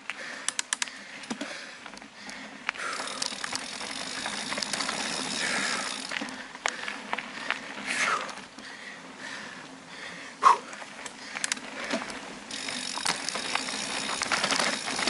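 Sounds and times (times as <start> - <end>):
bike clicking and rattling: 0.0 - 15.0
bike tyres on dirt: 0.0 - 15.0.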